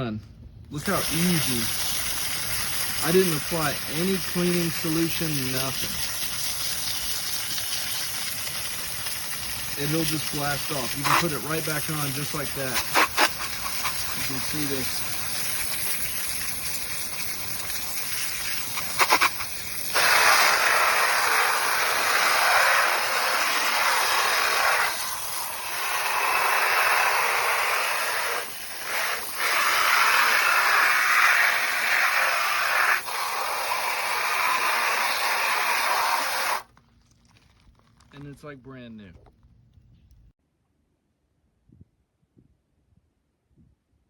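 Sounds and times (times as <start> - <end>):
water spray from a hose on fan: 0.8 - 36.7.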